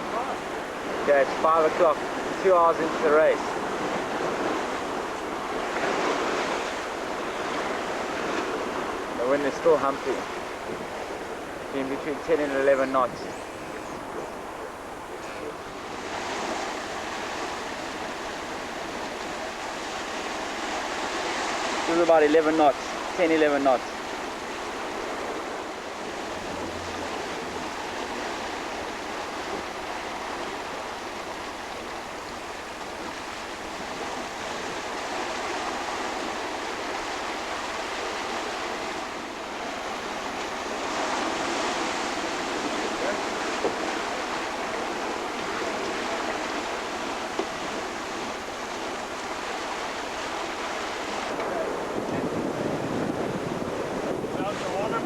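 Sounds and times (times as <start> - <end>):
water rushing along hull: 0.0 - 55.0.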